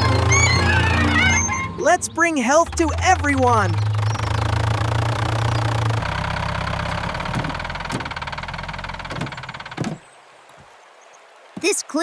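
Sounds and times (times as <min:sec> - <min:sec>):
cartoon vehicle engine idling: 0:00.0 - 0:10.0.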